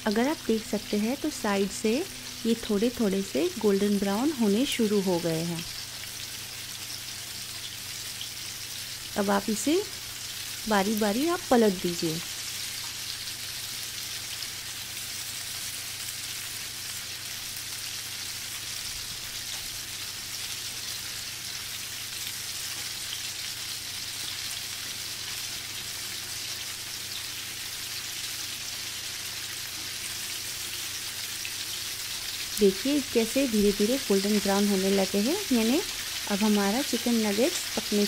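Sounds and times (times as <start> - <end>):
food deep-frying in oil: 0.0 - 38.0.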